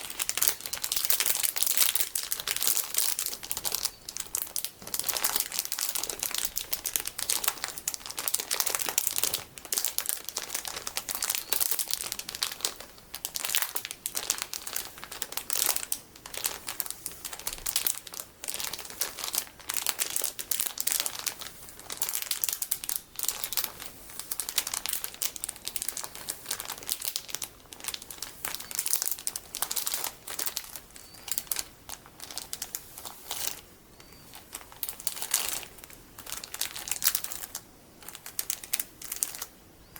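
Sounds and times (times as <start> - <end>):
plastic packaging crinkling: 0.0 - 39.6.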